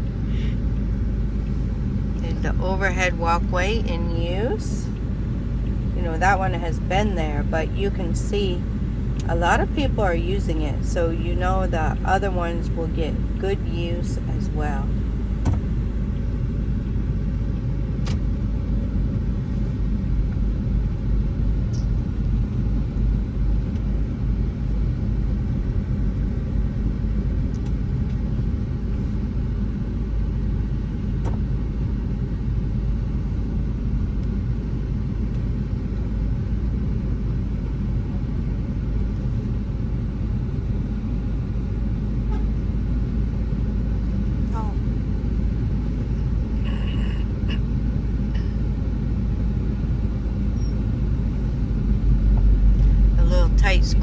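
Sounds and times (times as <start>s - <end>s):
car engine and tyres rumbling: 0.0s - 54.0s.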